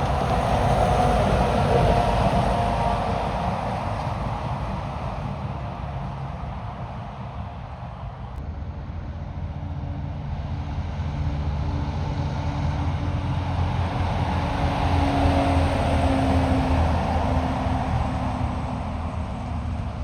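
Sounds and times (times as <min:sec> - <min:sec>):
heavy truck engine: 0:00.0 - 0:08.4, 0:09.6 - 0:20.0
truck tyres on road: 0:00.0 - 0:20.0.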